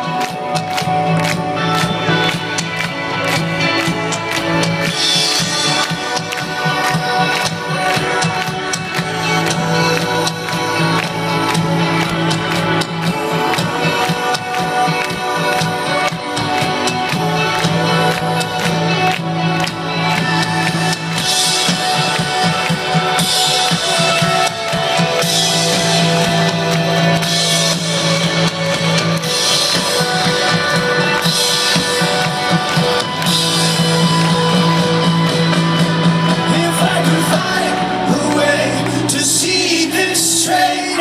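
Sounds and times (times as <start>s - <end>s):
electric guitar: 0.0s - 41.0s
live rock band playing: 0.0s - 41.0s.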